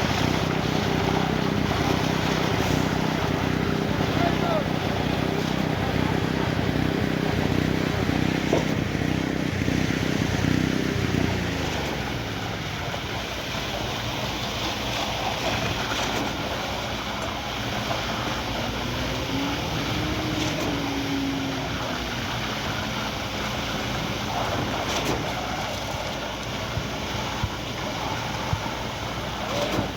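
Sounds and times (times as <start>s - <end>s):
heavy diesel truck engine: 0.0s - 29.9s.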